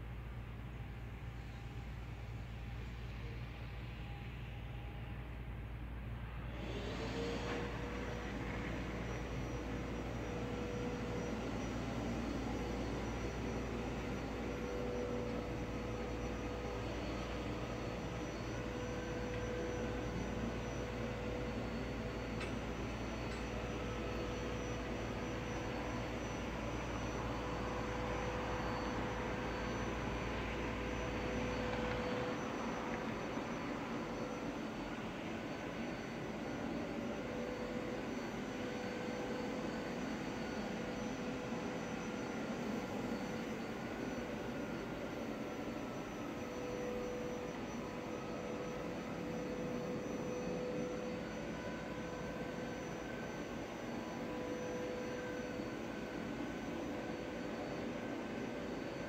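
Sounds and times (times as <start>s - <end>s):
faint hum: 0.0s - 59.0s
wavering whine: 0.0s - 59.0s.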